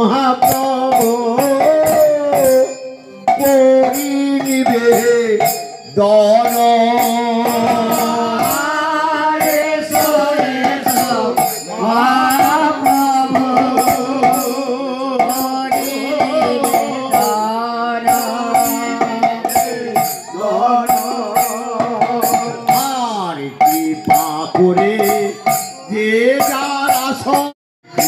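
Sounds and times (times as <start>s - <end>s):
hand percussion beat: 0.0s - 28.0s
voices singing devotional song: 0.0s - 28.0s.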